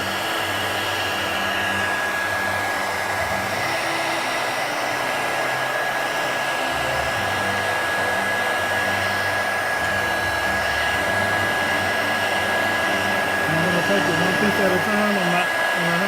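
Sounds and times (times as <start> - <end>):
heat gun blowing air with whine: 0.0 - 16.0.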